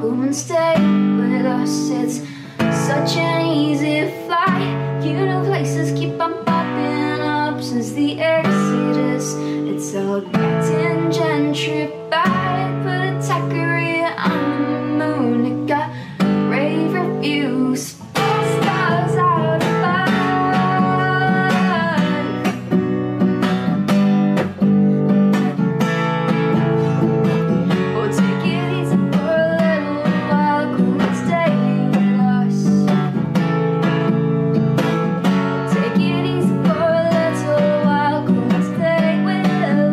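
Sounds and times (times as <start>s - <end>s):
woman singing: 0.0s - 22.8s, 26.5s - 34.0s, 35.2s - 39.9s
acoustic guitar strumming chords: 0.0s - 39.9s.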